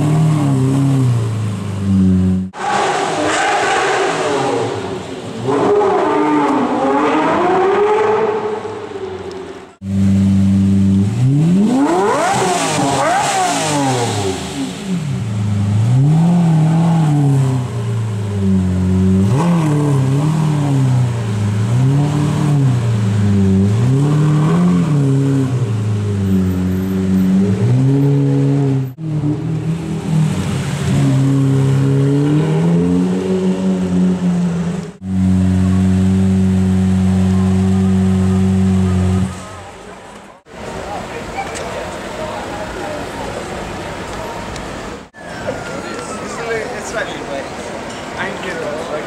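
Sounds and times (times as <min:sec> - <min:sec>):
car engine revving: 0:00.0 - 0:40.2.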